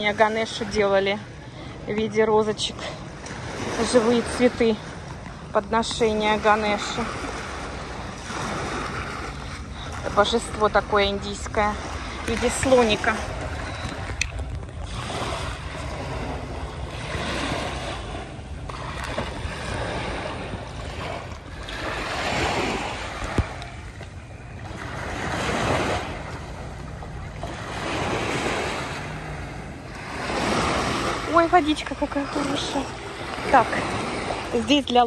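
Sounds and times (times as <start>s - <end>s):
small waves lapping on beach: 0.0s - 35.0s.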